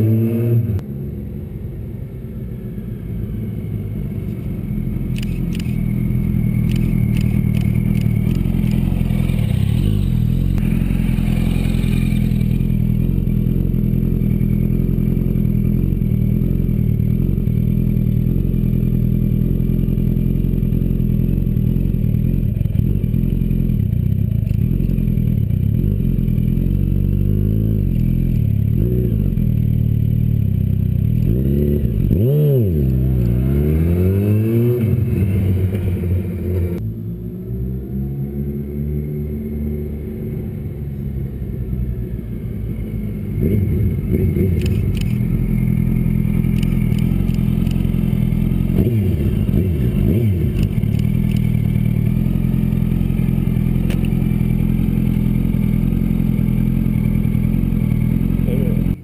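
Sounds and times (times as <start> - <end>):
motorcycle engine revving: 0.0 - 0.8, 4.8 - 59.0.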